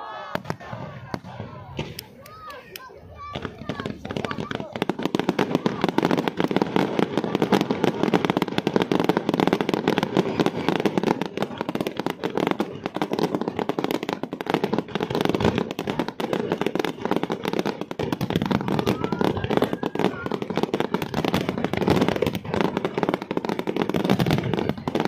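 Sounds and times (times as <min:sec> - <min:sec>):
fireworks crackling and banging: 0:00.3 - 0:25.0.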